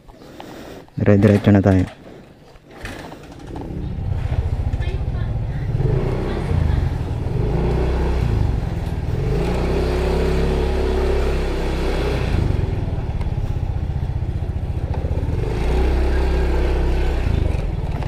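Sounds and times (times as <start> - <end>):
scooter engine revving: 2.7 - 18.0.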